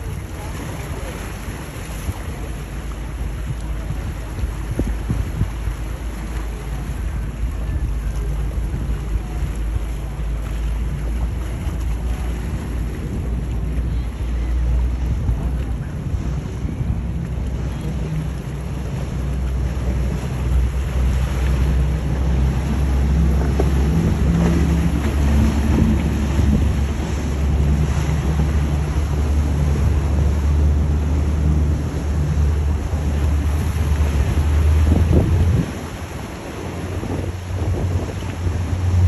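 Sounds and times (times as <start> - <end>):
motorboat engines rumbling: 0.0 - 39.0
water rushing and splashing: 0.0 - 39.0
wind buffeting microphone: 0.0 - 39.0.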